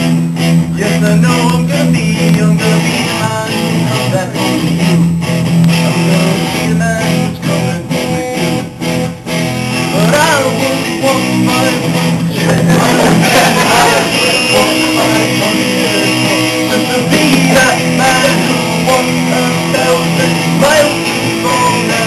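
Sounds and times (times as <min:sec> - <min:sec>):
rock music with guitar: 0:00.0 - 0:22.0.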